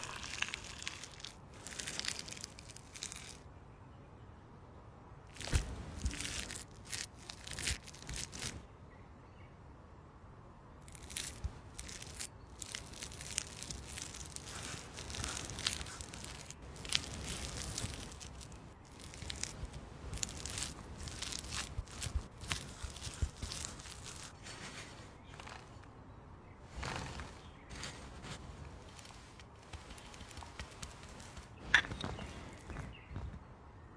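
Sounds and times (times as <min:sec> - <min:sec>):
rustling and crinkling: 0:00.0 - 0:03.5, 0:05.3 - 0:08.7, 0:10.8 - 0:33.7.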